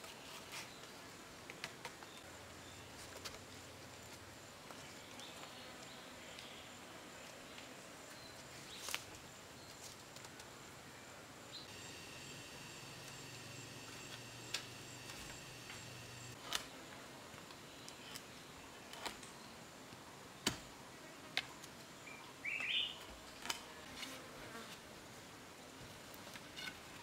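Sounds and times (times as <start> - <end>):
faint steady buzz: 0.7 - 27.0.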